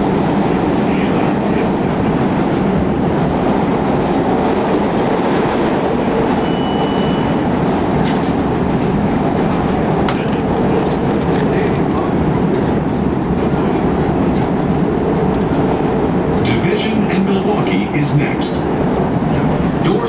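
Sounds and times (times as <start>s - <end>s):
train rumble from inside: 0.0s - 20.0s.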